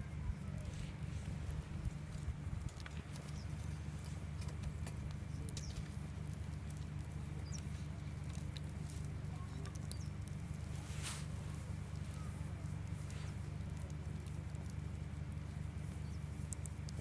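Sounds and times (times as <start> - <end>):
low rumble: 0.0 - 15.8
campfire wood crackling: 0.0 - 17.0.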